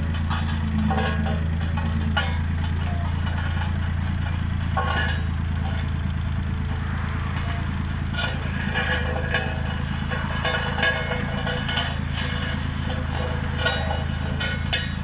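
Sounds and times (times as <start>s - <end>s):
clicks and clanks: 0.0s - 6.0s, 6.6s - 15.0s
road roller engine idling: 0.0s - 15.0s.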